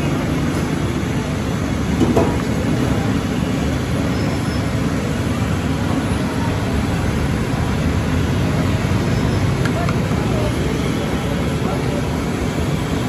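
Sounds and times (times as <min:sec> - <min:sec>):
low rumble of background noise: 0:00.0 - 0:13.0.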